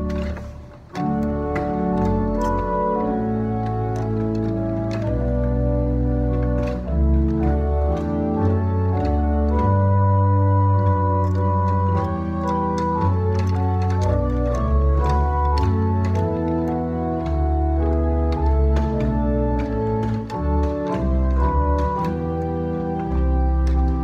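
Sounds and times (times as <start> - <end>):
organ chords: 0.0 - 24.0.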